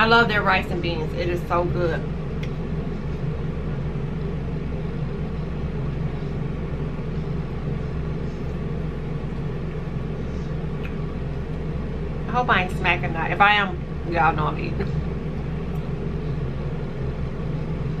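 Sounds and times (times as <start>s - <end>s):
air conditioner humming: 0.0s - 18.0s.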